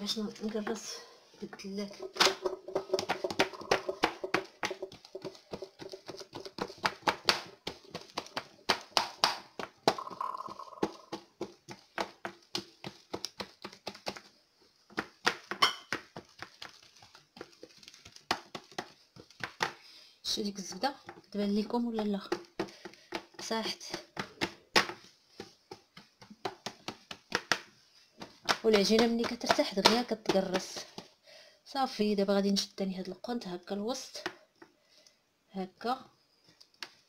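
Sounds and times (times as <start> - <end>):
hands slapping dough on wood: 1.5 - 31.2.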